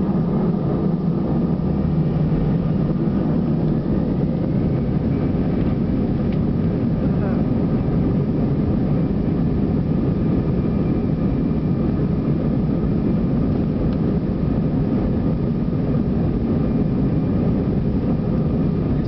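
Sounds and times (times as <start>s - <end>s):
faint whine: 0.0s - 19.0s
jet engines rumbling: 0.0s - 19.0s.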